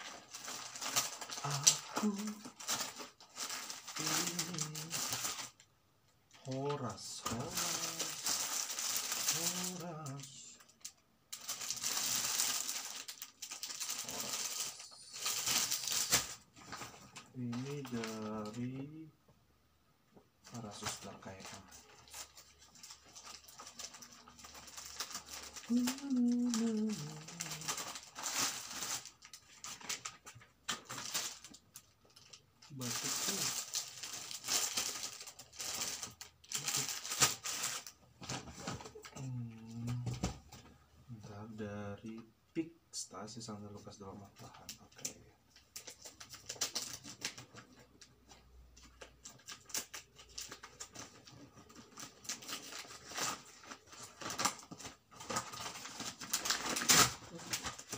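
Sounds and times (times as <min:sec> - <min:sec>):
gift wrapping paper rustling: 0:00.0 - 0:05.7, 0:06.3 - 0:18.9, 0:20.5 - 0:40.0, 0:44.5 - 0:57.9
plastic packaging crinkling: 0:00.0 - 0:05.7, 0:06.3 - 0:18.8, 0:20.5 - 0:39.3, 0:44.6 - 0:57.9.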